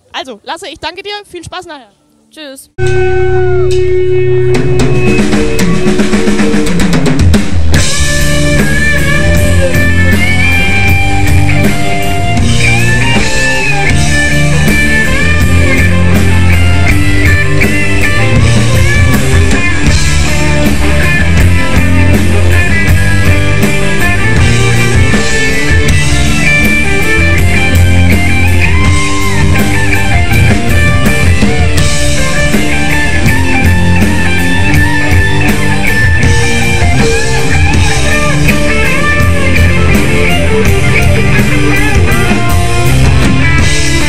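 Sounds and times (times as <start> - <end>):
lead guitar bending melody: 0.9 - 44.0
live rock band: 2.4 - 44.0
drums and cymbals: 2.8 - 44.0.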